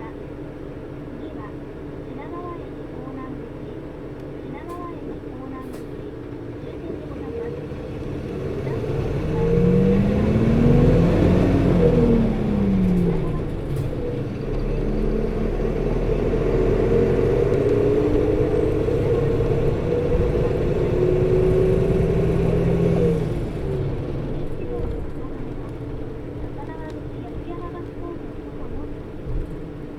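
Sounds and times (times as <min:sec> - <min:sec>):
bus diesel engine from inside: 0:00.0 - 0:29.9
engine cooling fan running: 0:00.2 - 0:29.9.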